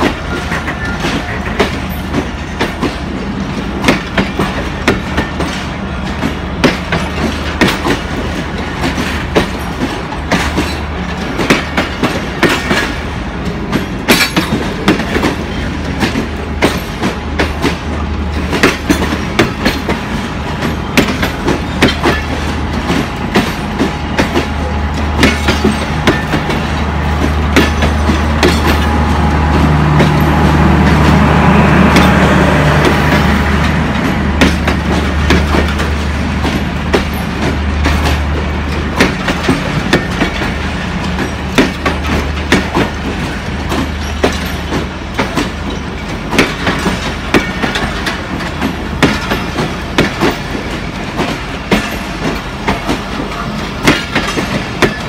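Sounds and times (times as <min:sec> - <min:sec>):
train wheels clicking over rail joints: 0:00.0 - 0:55.0.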